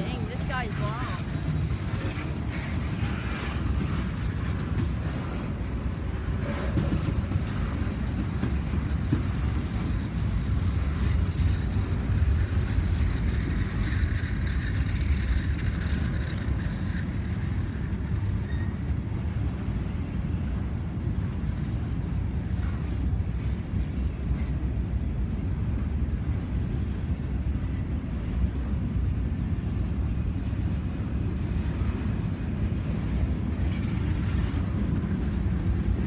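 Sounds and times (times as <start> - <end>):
train rumbling by: 0.0 - 36.0.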